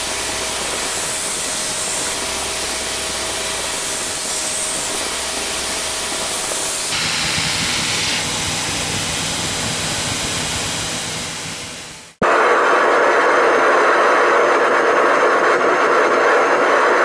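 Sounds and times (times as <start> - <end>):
workshop equipment hissing rush: 0.0 - 17.0.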